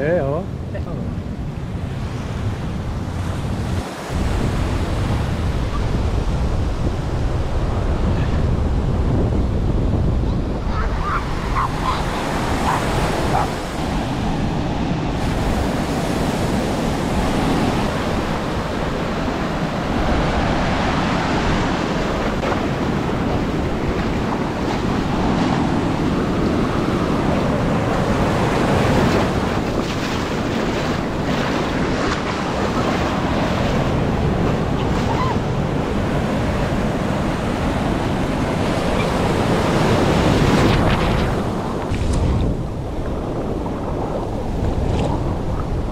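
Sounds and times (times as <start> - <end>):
ocean surf breaking on shore: 0.0 - 45.9
wind buffeting microphone: 0.0 - 45.9.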